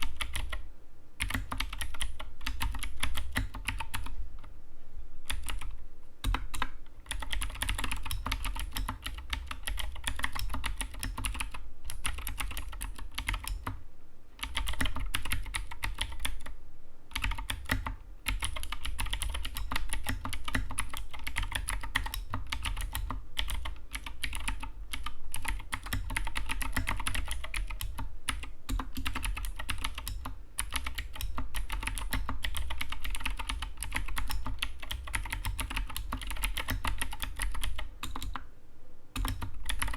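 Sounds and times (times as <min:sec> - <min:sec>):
fast typing on mechanical keyboard: 0:00.0 - 0:00.6, 0:01.2 - 0:04.2, 0:05.3 - 0:13.8, 0:14.4 - 0:16.5, 0:17.1 - 0:38.4, 0:39.2 - 0:39.9.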